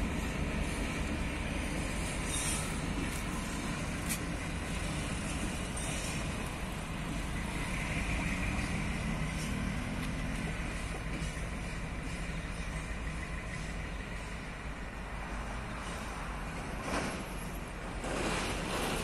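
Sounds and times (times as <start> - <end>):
diesel locomotive engine rumble: 0.0 - 19.0
train wheels on rails: 0.0 - 19.0.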